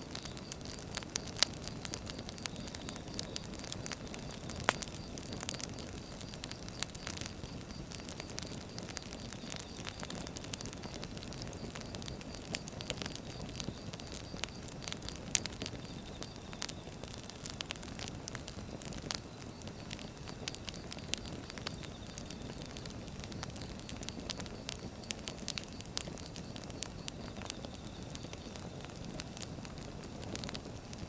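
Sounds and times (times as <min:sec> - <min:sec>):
low rush of flames: 0:00.0 - 0:31.0
wood crackling and popping: 0:00.0 - 0:31.0.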